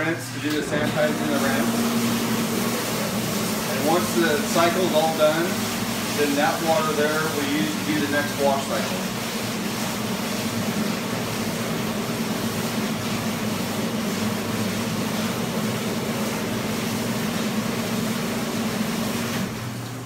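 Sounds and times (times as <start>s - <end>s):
dishwasher pump hum: 0.0s - 20.0s
water rushing inside dishwasher: 0.0s - 20.0s.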